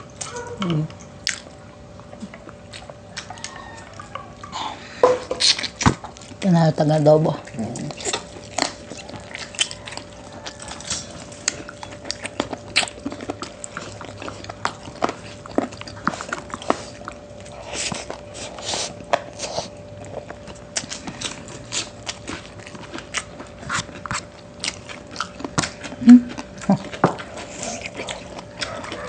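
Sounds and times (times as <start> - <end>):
people chewing: 0.0 - 29.0.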